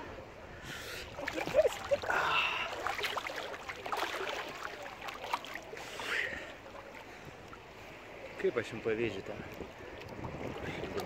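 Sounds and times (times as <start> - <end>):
water splashing and lapping: 0.6 - 11.0.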